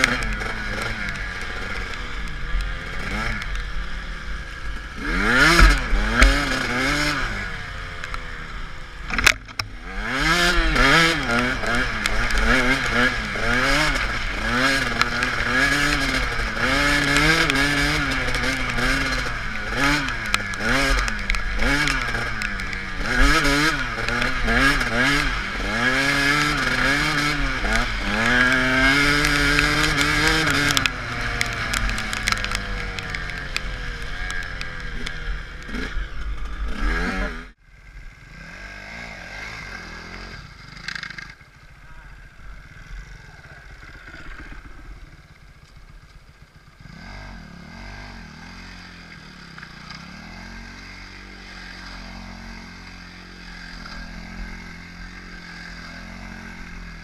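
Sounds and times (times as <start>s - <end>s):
dirt bike engine revving: 0.0s - 57.0s
engine running at low revs: 0.0s - 57.0s.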